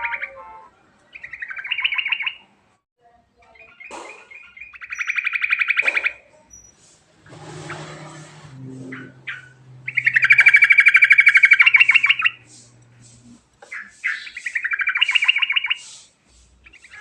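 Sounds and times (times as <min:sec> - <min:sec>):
bird singing rolling trills: 0:00.0 - 0:02.5, 0:03.5 - 0:16.0.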